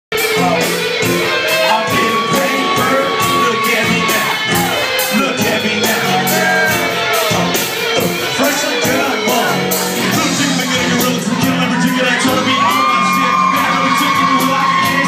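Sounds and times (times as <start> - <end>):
crowd shouting and singing: 0.1 - 15.0
drums steady beat: 0.1 - 15.0
live band music: 0.1 - 15.0.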